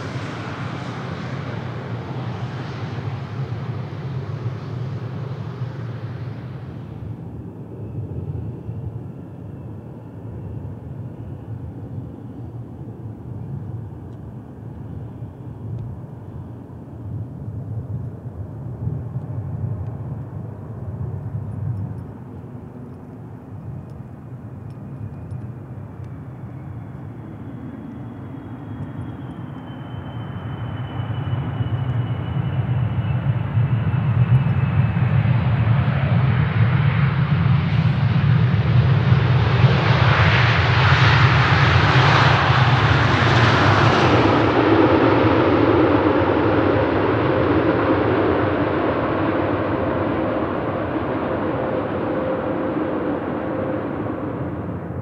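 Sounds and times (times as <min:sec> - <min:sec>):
faint high whine: 0:00.0 - 0:55.0
jet engines rumbling: 0:00.0 - 0:55.0.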